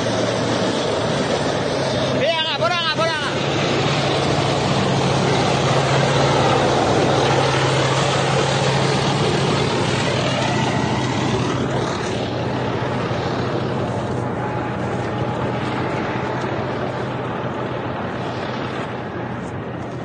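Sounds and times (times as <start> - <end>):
loud rushing noise: 0.0 - 20.0
low engine drone: 0.0 - 20.0.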